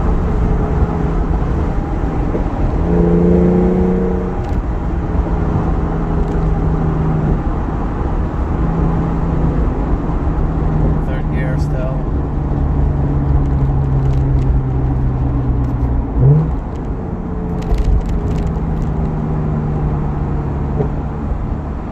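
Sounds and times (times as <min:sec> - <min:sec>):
car engine running while driving: 0:00.0 - 0:21.9
road and tyre noise: 0:00.0 - 0:21.9.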